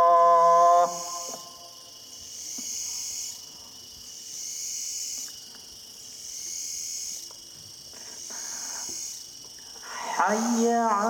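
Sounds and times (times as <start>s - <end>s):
night insects buzzing: 0.0s - 11.0s.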